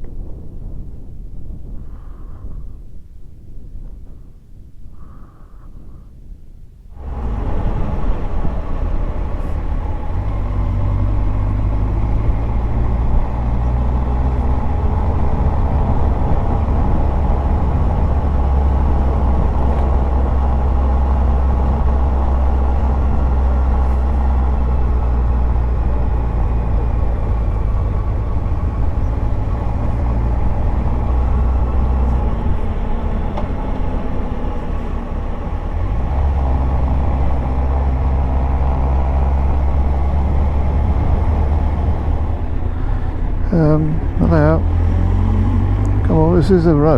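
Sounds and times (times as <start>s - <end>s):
road noise: 6.9s - 46.9s
motorcycle engine running: 7.0s - 46.9s.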